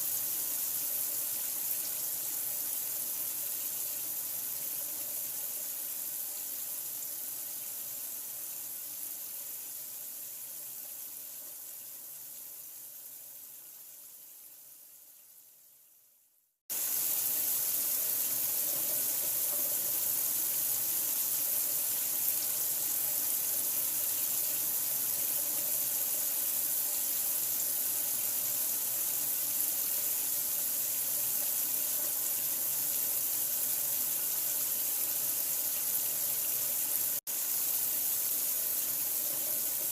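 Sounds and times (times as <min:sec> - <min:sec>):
running water hiss: 0:00.0 - 0:16.0, 0:16.7 - 0:39.9.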